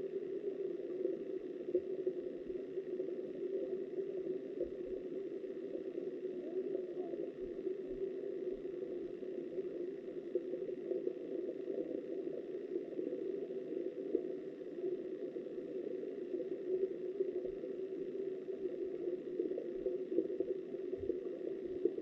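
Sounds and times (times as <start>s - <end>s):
river water flowing underwater: 0.0s - 22.0s.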